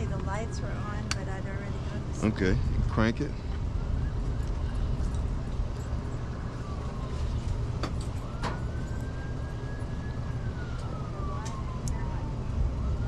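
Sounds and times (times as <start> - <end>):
distant siren: 0.0 - 13.0
low rumble: 0.0 - 13.0.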